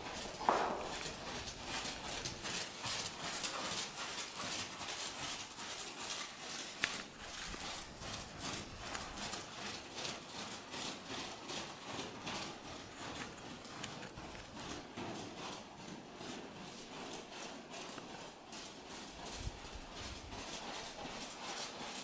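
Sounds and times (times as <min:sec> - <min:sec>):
horse hooves on sand: 0:00.0 - 0:22.0.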